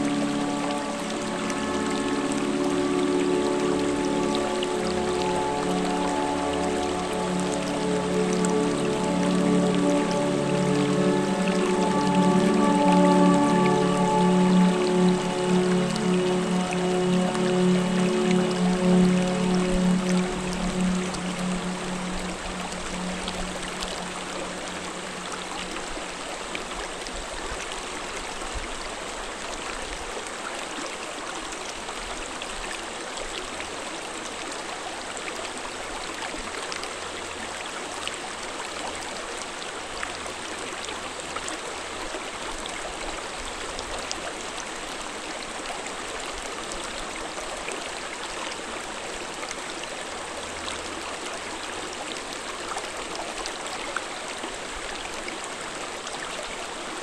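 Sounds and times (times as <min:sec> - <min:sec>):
stream flowing over stones: 0:00.0 - 0:57.0
water splashes and drips: 0:00.0 - 0:57.0.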